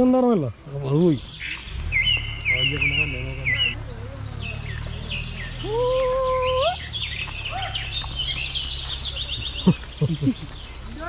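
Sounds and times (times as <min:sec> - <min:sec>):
birds chirping and calling: 0:00.0 - 0:11.0
steady low rumble: 0:01.0 - 0:11.0.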